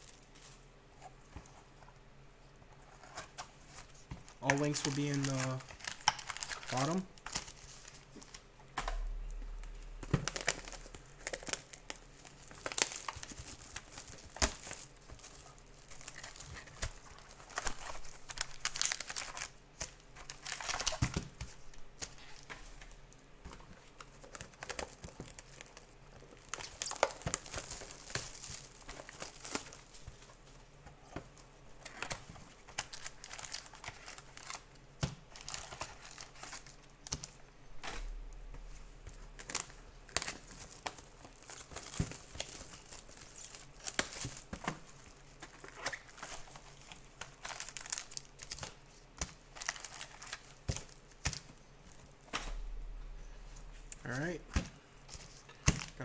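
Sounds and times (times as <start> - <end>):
plastic wrapping crinkling: 0.0 - 56.0.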